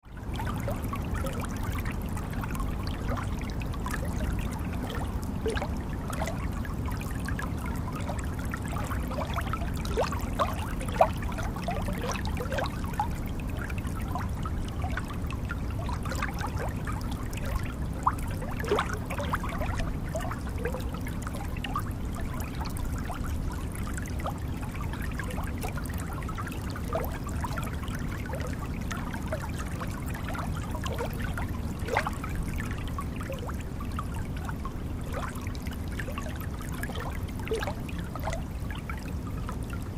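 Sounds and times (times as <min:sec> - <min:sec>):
water splashes and plops: 0:00.0 - 0:39.9.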